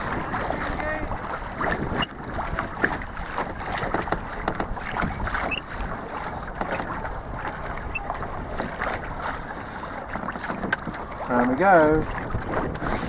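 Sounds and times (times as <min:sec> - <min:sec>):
water lapping against hull: 0:00.0 - 0:13.0
wind rumbling on microphone: 0:00.0 - 0:13.0.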